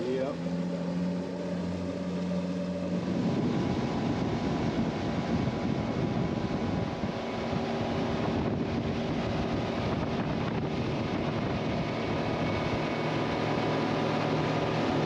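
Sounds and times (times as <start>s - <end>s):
outboard engine drone: 0.0s - 15.0s
water rushing: 0.0s - 15.0s
wind buffeting microphone: 2.4s - 15.0s.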